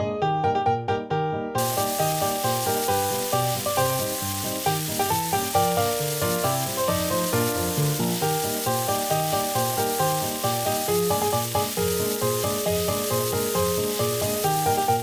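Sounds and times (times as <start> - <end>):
food sizzling in frying pan: 1.6 - 15.0.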